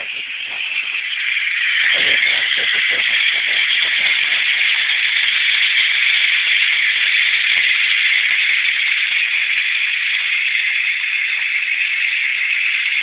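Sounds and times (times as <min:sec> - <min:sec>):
hose water pouring into bucket: 0:00.0 - 0:13.0.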